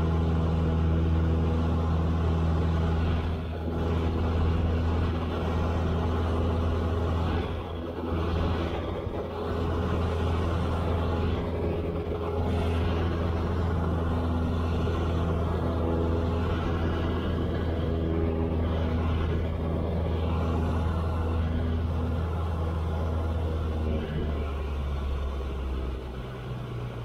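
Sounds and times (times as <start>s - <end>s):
propeller plane engine droning: 0.0s - 27.0s.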